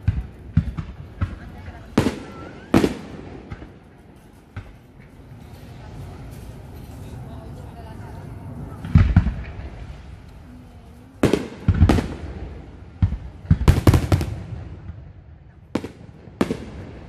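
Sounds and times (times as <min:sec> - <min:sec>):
fireworks bangs: 0:00.0 - 0:06.7, 0:08.5 - 0:17.0.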